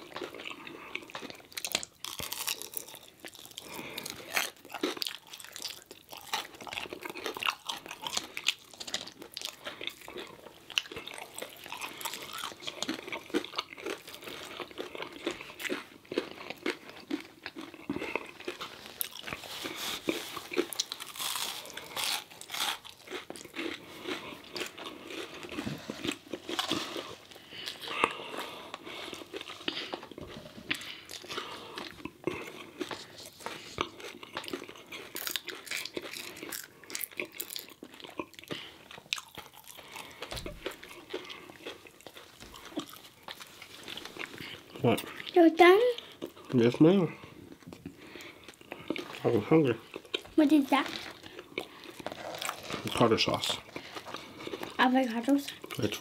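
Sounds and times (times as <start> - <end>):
crunching fried food: 0.0 - 45.4, 46.0 - 56.0.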